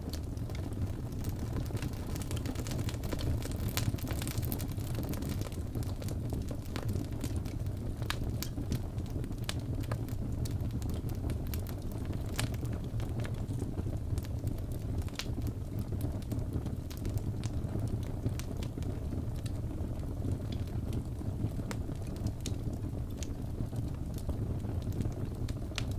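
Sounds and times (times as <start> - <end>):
fire popping and snapping: 0.0 - 25.9
logs burning with low rumble: 0.0 - 25.9.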